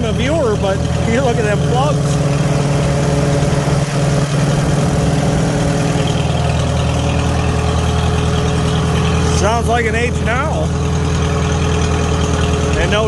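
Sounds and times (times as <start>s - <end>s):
tractor engine running steadily: 0.0s - 13.0s.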